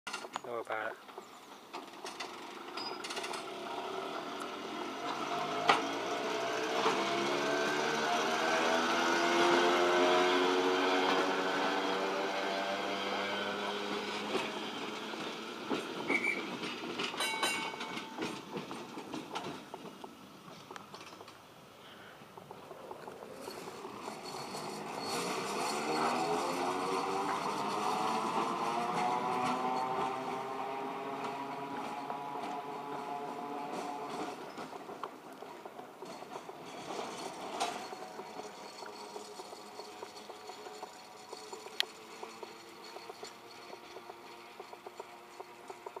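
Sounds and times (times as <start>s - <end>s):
tram wheels clicking over rail joints: 0.1s - 46.0s
high-pitched tram squeals: 1.2s - 19.6s, 23.3s - 46.0s.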